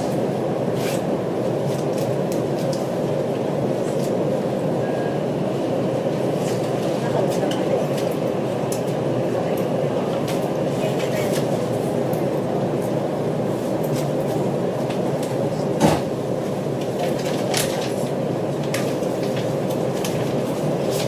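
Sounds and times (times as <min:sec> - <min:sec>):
railway carriage rumble: 0:00.0 - 0:21.0.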